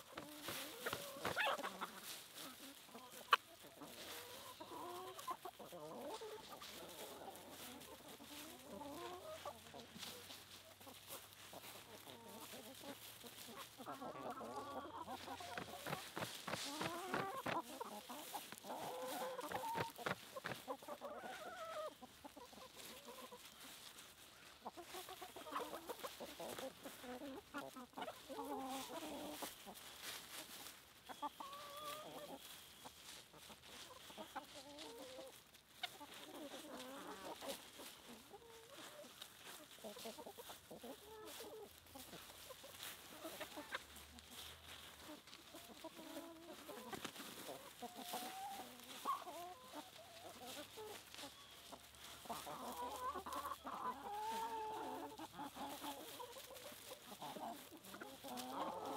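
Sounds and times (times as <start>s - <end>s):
chickens clucking: 0.0s - 58.9s.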